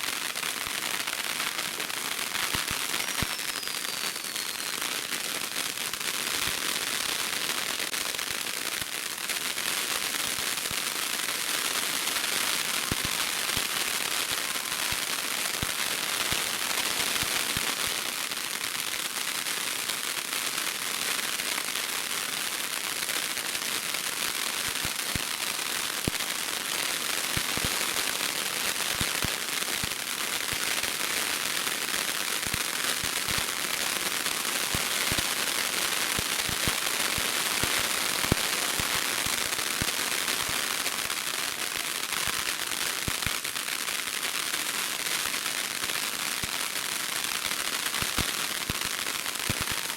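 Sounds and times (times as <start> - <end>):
fireworks hissing: 0.0 - 8.9, 10.8 - 18.2, 24.6 - 49.9
fireworks crackling and popping: 0.0 - 49.9.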